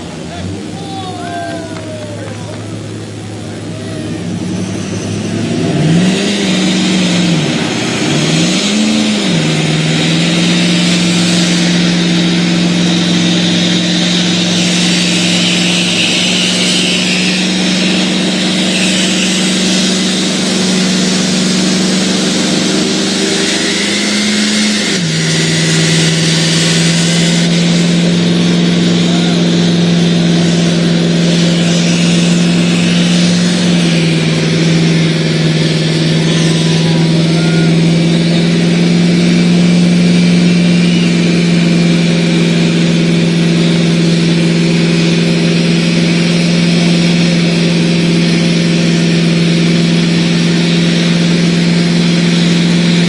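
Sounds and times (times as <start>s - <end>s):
pickup engine at high revs: 0.0s - 53.0s
tires spinning on pavement: 0.0s - 53.0s.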